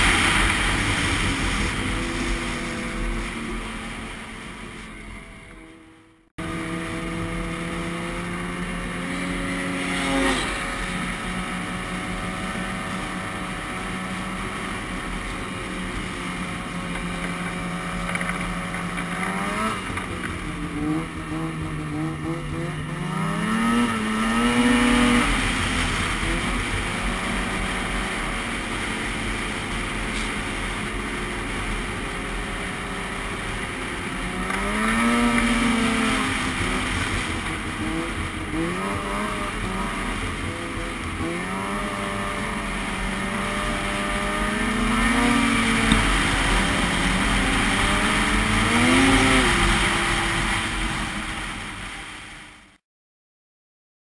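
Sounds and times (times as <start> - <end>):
snowmobile engine revving: 0.0 - 52.2
wind and track noise: 0.0 - 52.8.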